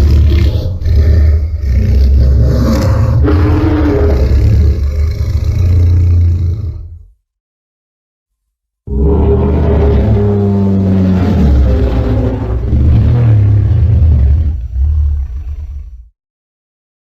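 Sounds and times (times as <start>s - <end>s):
deep rumbling monster roar: 0.0s - 7.1s, 8.9s - 16.1s.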